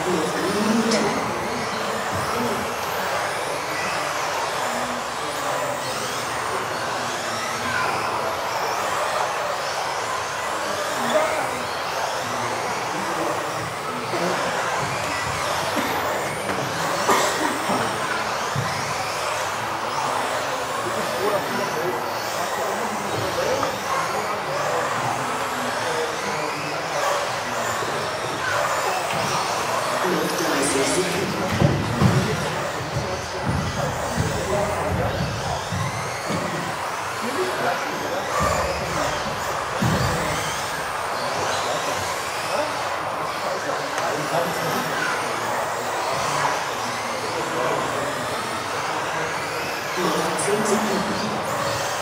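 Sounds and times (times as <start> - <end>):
echoing hall noise: 0.0 - 52.0
toy car motors whining: 0.0 - 52.0.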